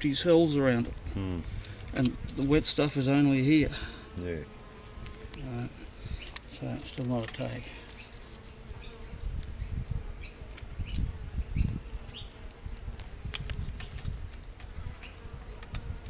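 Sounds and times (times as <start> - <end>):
honey bees buzzing: 0.0 - 16.0
hive frames clicking and knocking: 0.1 - 16.0.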